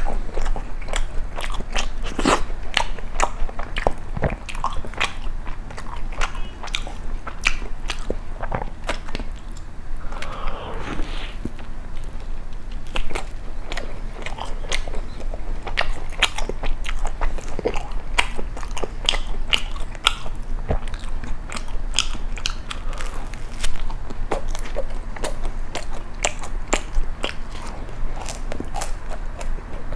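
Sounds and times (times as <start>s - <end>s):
chewing crisp toast: 0.0s - 10.6s, 11.4s - 29.9s.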